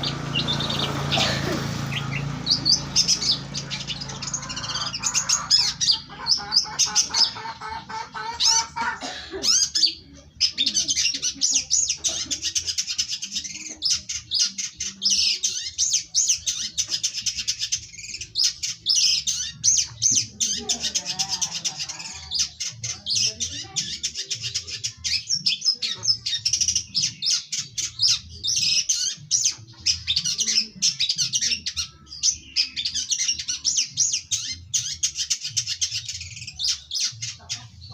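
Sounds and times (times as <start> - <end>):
songbird chirps and trills: 0.0 - 37.9.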